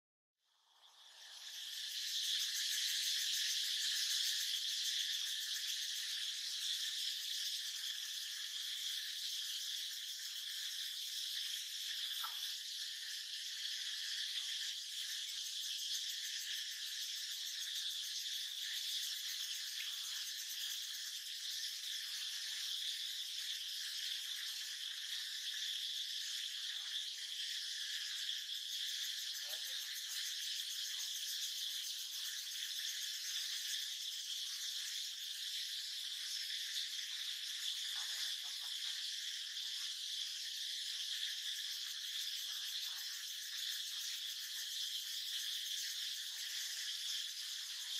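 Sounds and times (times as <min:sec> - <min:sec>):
insects chorus shrill drone: 0:00.7 - 0:47.9.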